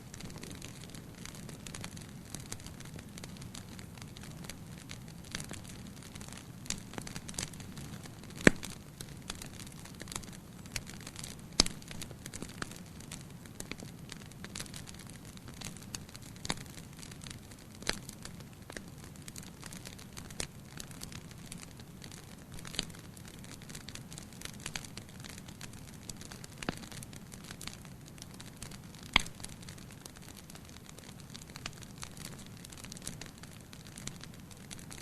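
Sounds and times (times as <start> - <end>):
fire crackling in fireplace: 0.0 - 35.0.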